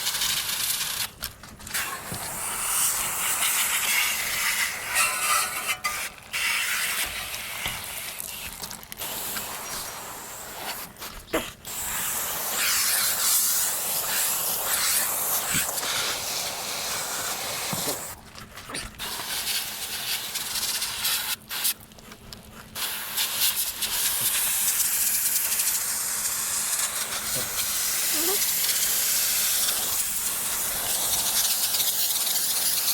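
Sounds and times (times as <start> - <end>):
spray hissing against metal fins: 1.7 - 18.2, 22.8 - 32.9.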